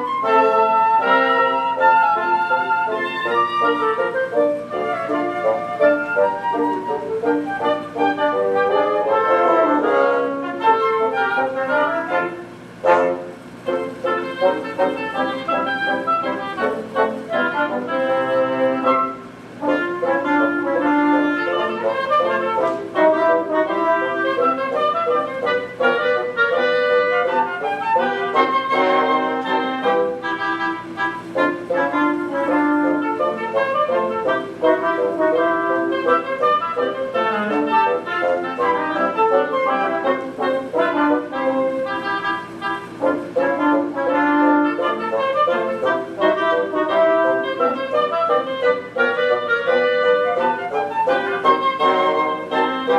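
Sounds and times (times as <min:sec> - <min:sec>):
orchestra playing: 0:00.0 - 0:52.9.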